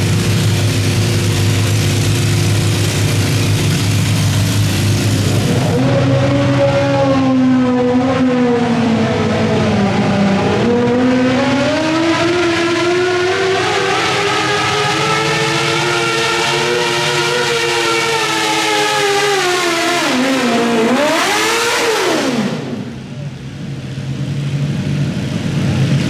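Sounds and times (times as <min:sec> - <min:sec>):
tractor engine revving hard: 0:00.0 - 0:23.1.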